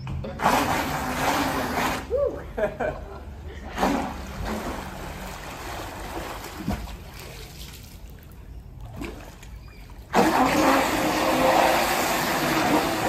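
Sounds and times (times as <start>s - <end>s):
water churning: 0.4s - 2.5s, 3.2s - 13.0s
pool water splashing and trickling: 0.4s - 13.0s.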